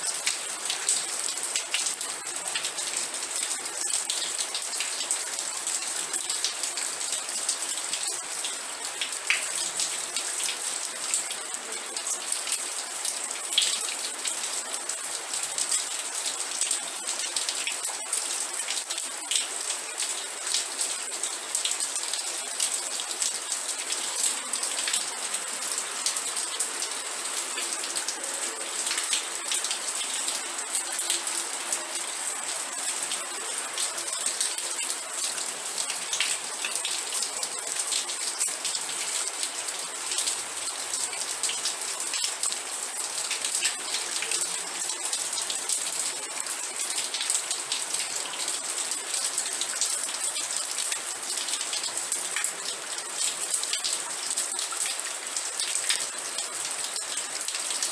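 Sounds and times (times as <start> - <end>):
rain pattering on a surface: 0.0 - 57.9.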